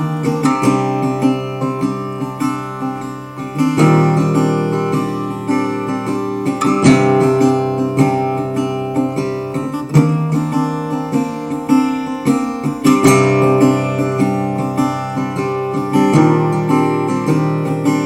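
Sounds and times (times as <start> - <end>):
acoustic guitar plucking: 0.0 - 18.0.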